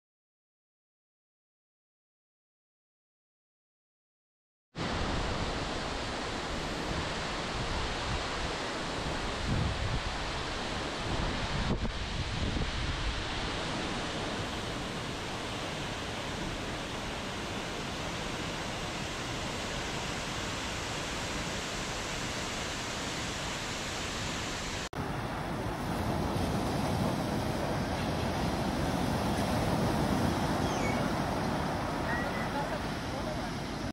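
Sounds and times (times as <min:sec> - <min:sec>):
waterfall rushing: 0:04.8 - 0:33.9
wind: 0:04.8 - 0:33.9.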